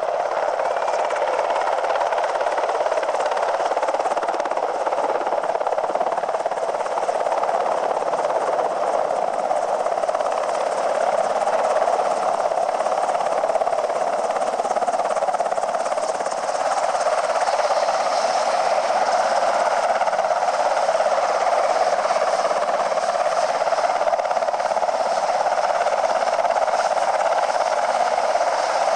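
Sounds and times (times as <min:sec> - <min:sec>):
helicopter rotor and engine: 0:00.0 - 0:28.9.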